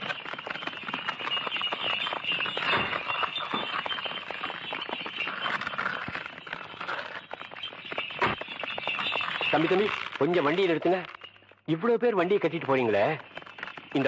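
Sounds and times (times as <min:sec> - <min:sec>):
bullock carts clattering: 0:00.0 - 0:14.0.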